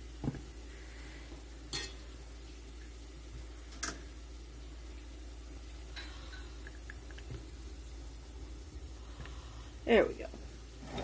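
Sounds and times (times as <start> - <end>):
faint hiss: 0.0 - 11.0
low steady hum: 0.0 - 11.0.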